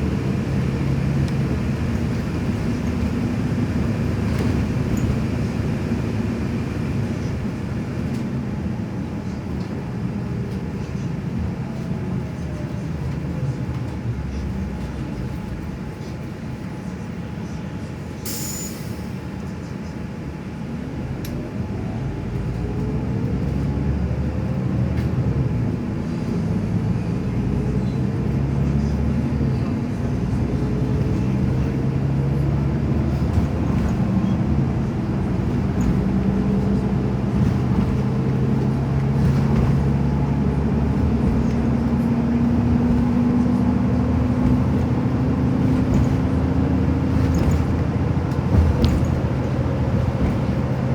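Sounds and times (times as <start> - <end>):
vehicle engine rumbling: 0.0 - 18.2, 18.8 - 50.9.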